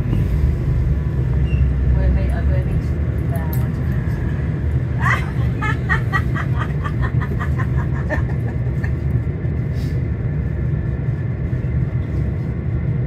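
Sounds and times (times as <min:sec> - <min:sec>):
bus drivetrain and road rumble: 0:00.0 - 0:13.0.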